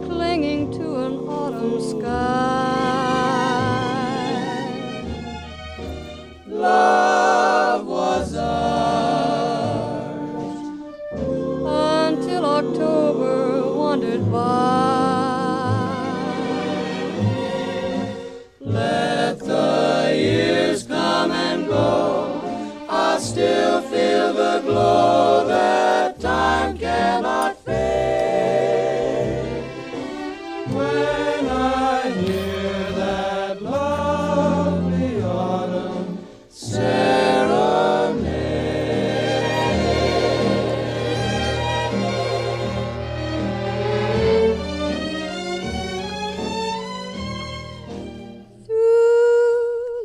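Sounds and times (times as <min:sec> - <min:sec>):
slow choir-like background music: 0:00.0 - 0:48.7.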